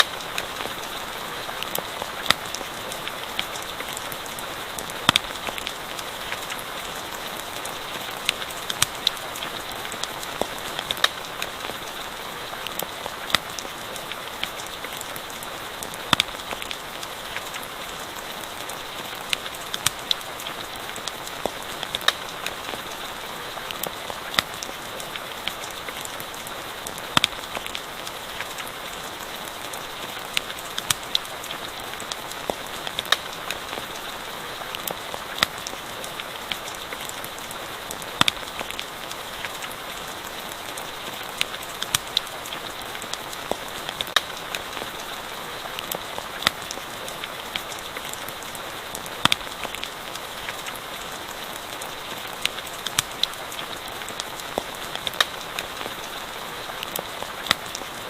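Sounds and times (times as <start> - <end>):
campfire popping and crackling: 0.0 - 58.0
steady rain: 0.0 - 58.0.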